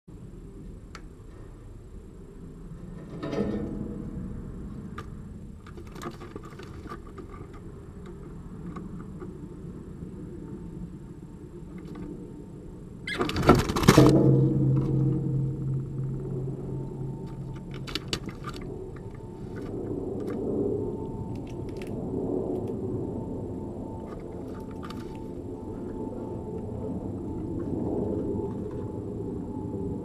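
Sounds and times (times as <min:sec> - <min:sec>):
steady low rumble: 0:00.1 - 0:30.0.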